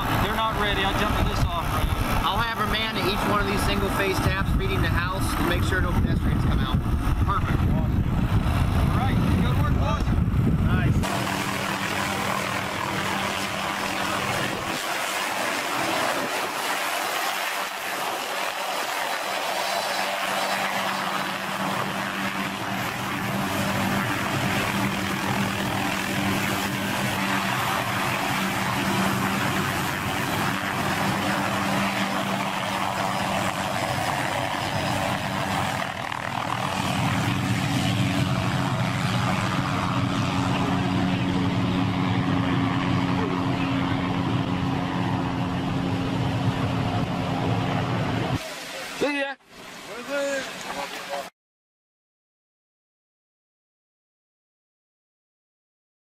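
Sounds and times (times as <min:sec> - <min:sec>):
helicopter engine hum: 0:00.0 - 0:51.2
helicopter rotor hiss: 0:00.0 - 0:51.3.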